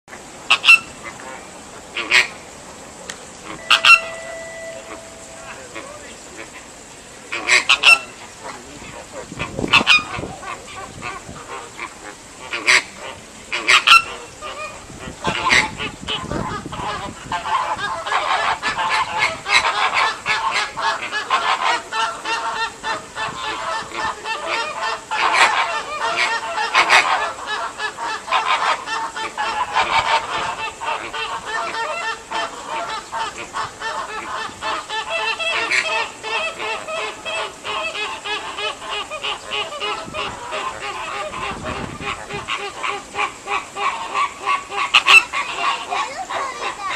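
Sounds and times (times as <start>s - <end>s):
flamingos honking: 0.5s - 2.5s, 3.3s - 46.9s.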